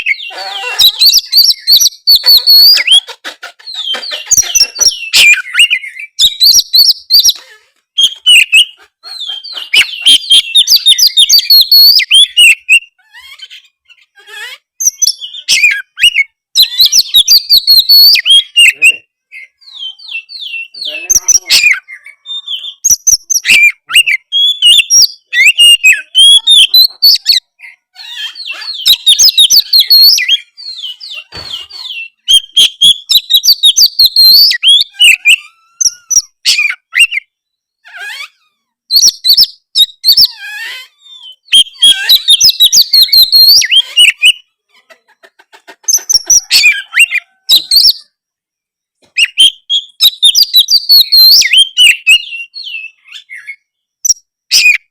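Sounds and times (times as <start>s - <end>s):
bird song warbling and whistling: 0.0s - 44.9s, 45.8s - 54.9s.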